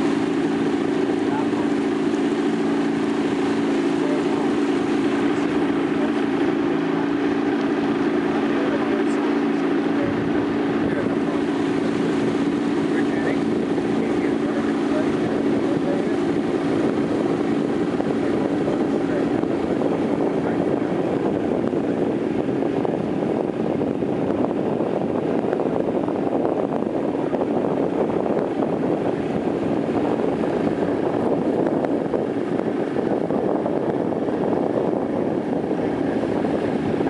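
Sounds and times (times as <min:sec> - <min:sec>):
boat engine humming: 0:00.0 - 0:37.0
wind noise on microphone: 0:00.0 - 0:37.0.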